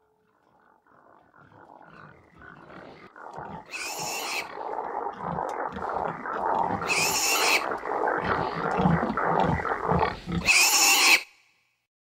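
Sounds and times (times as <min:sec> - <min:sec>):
growling rough sound: 0:00.2 - 0:10.5.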